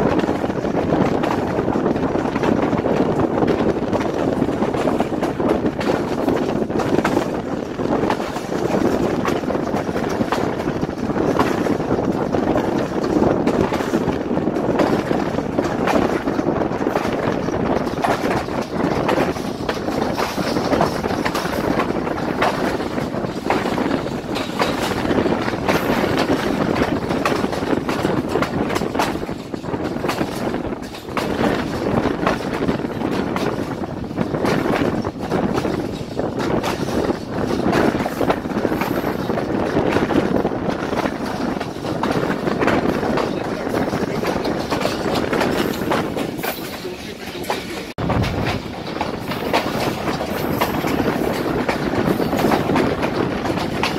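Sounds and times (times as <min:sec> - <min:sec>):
rail joint clicks and knocks: 0:00.0 - 0:53.9
train wheels rumbling on rails: 0:00.0 - 0:53.9.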